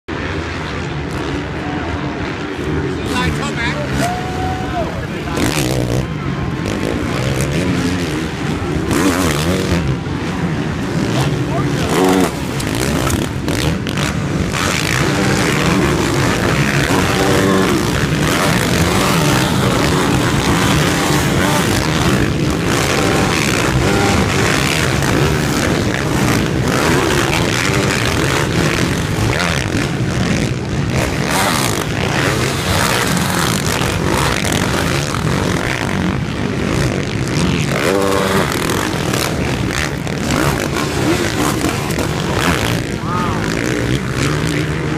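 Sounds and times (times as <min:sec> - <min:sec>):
motocross bikes revving past: 0:00.1 - 0:44.9.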